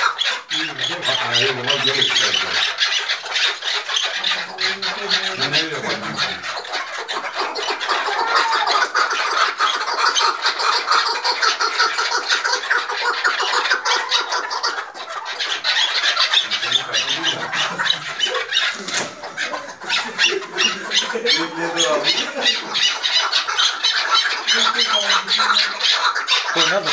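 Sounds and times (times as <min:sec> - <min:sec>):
partridges clucking and squawking: 0:00.0 - 0:26.9.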